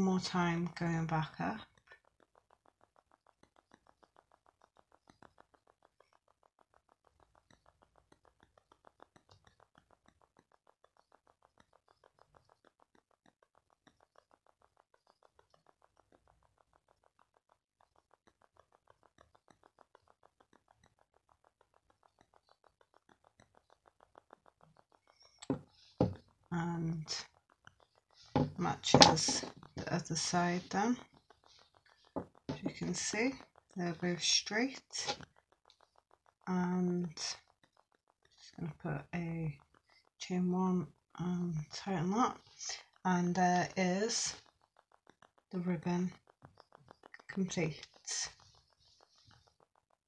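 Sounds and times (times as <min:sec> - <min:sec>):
faint even ticking: 0:00.0 - 0:50.0.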